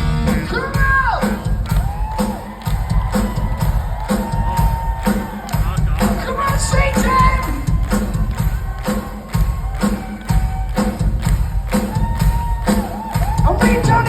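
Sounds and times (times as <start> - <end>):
drums striking steady beat: 0.0 - 14.0
rock band playing live: 0.0 - 14.0.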